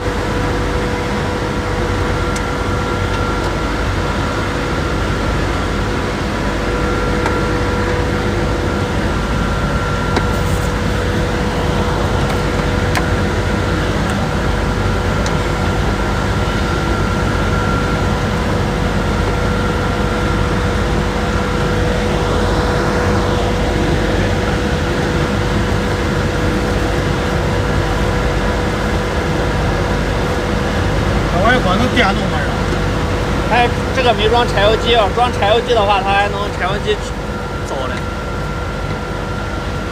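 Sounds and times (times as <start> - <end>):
machinery drone with whine: 0.0 - 39.9.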